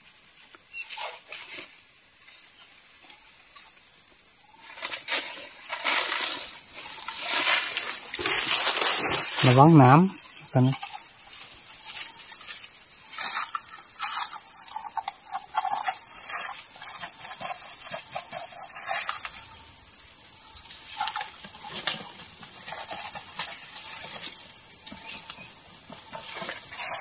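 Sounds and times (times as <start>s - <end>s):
high-pitched insect drone: 0.0s - 27.0s
rustling leaves and snapping twigs: 0.0s - 27.0s.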